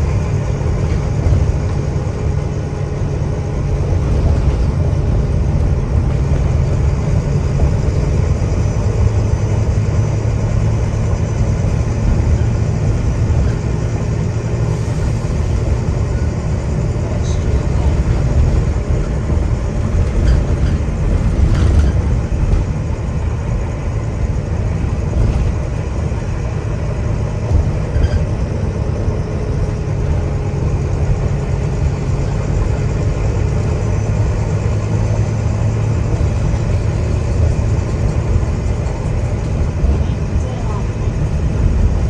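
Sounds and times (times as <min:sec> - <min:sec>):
bus diesel engine rumble: 0:00.0 - 0:42.0
road noise: 0:00.0 - 0:42.0.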